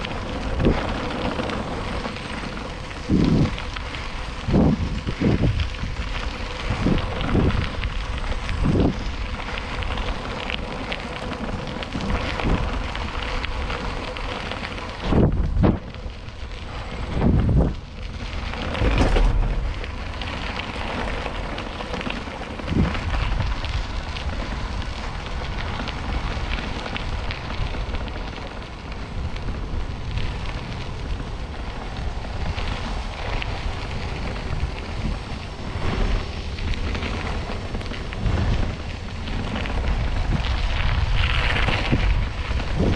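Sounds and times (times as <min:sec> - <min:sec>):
crackling bicycle tyre noise: 0:00.0 - 0:42.9
wind buffeting microphone: 0:00.0 - 0:42.9.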